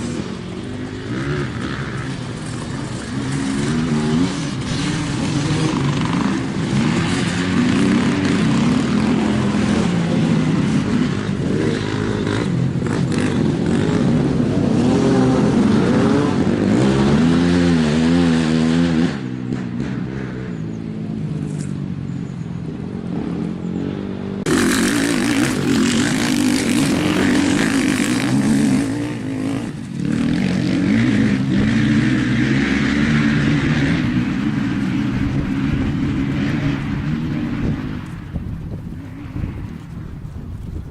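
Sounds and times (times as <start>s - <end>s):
off-road engines revving: 0.0s - 40.9s.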